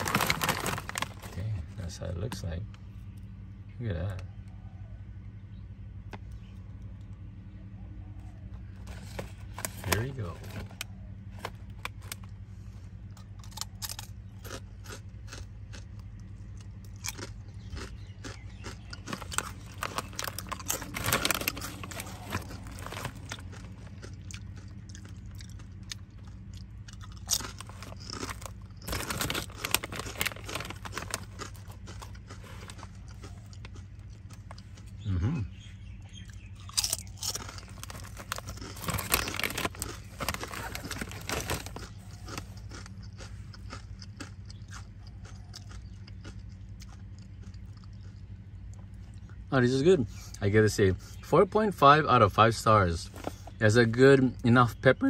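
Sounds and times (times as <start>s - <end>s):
crunching potato chips: 0.0s - 2.1s, 8.6s - 35.6s, 36.2s - 50.4s, 52.2s - 54.8s
low hum: 0.0s - 55.0s.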